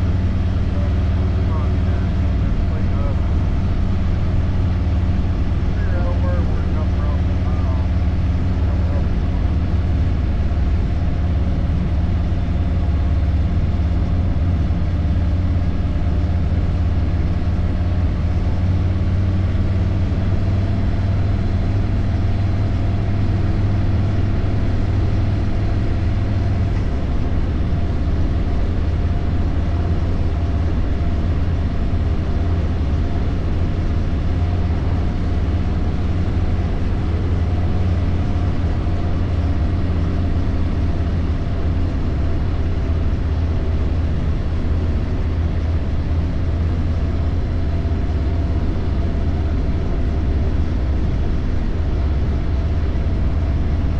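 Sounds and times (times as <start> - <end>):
road and wind noise: 0.0 - 53.9.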